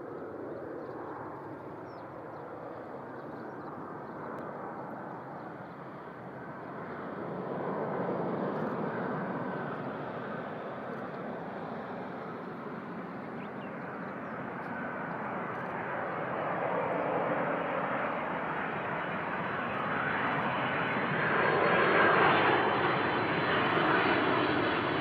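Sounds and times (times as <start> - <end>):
jet engine rush: 0.0 - 25.0.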